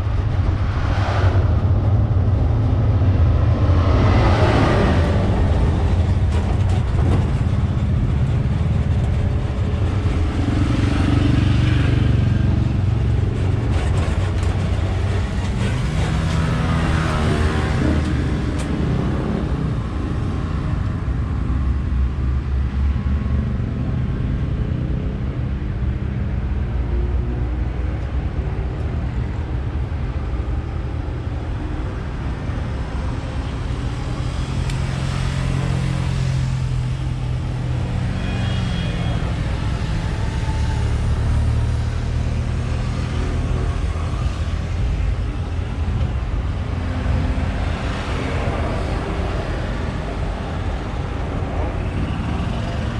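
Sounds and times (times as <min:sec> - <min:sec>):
tram engine droning: 0:00.0 - 0:52.9
travel and wind noise: 0:00.0 - 0:52.9.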